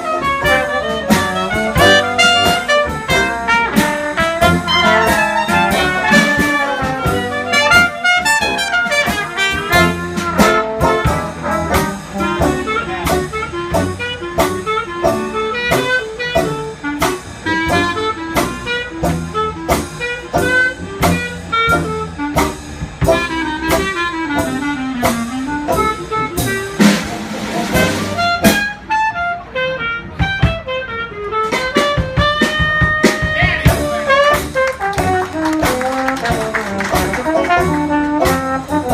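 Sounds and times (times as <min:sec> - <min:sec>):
jazz band with brass: 0:00.0 - 0:38.9.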